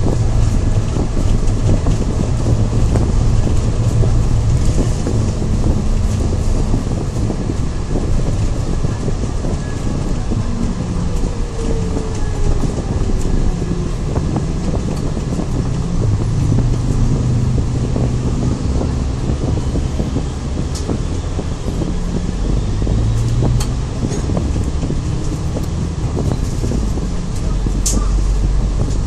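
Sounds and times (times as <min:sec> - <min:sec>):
bodywork rattles and clicks: 0:00.0 - 0:29.0
bus engine hum: 0:00.0 - 0:29.0.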